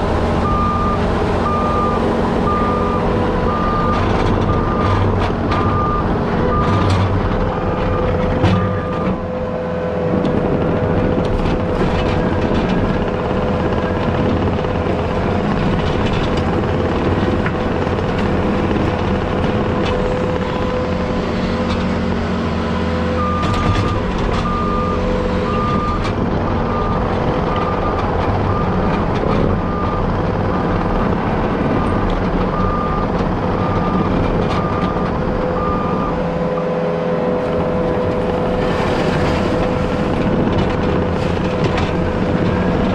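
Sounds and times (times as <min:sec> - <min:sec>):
heavy diesel machine running: 0:00.0 - 0:42.9.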